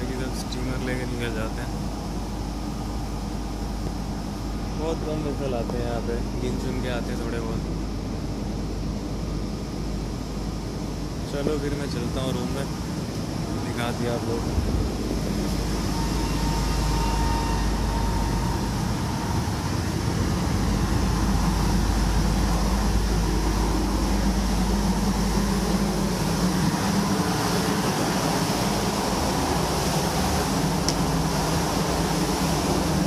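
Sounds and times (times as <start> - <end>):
ship machinery drone: 0.0 - 33.0.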